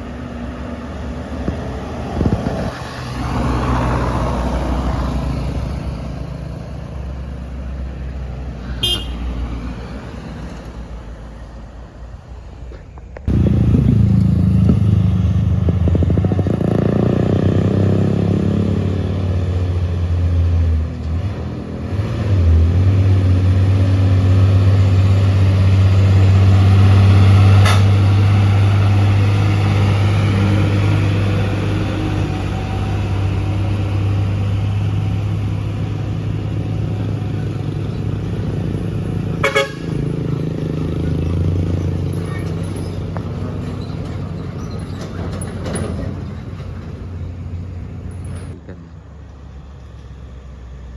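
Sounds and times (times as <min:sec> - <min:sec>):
diesel truck engine under load: 0:00.0 - 0:50.9.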